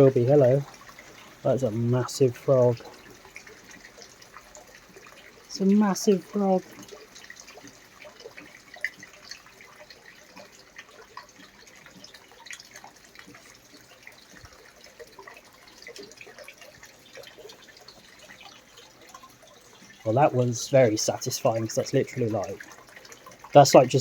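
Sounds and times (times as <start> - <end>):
rainwater dripping: 0.0 - 24.0
water trickling: 0.0 - 24.0.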